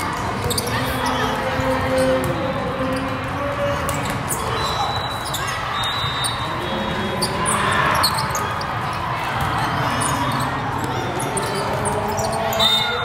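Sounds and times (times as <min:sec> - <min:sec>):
echoing hall hubbub: 0:00.0 - 0:13.0.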